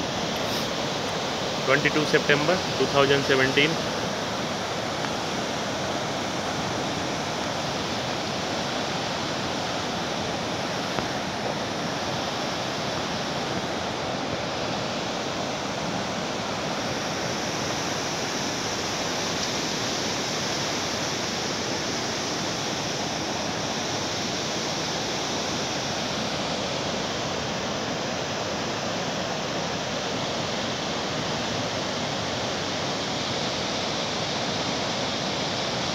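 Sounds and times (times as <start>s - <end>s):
floodwater rushing over a dam: 0.0s - 35.9s
water churning in a river: 0.0s - 35.9s.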